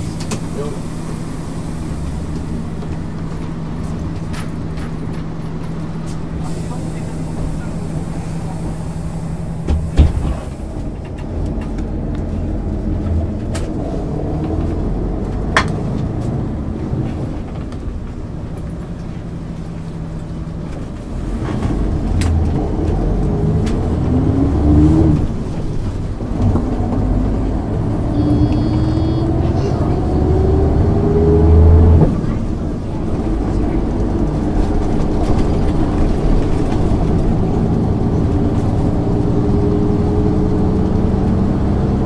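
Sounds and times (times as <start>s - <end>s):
diesel bus engine: 0.0s - 42.0s.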